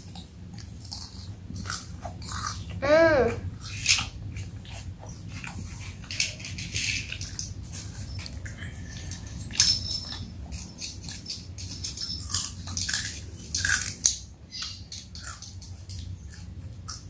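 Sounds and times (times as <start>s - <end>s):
child chewing and smacking: 0.0s - 17.0s.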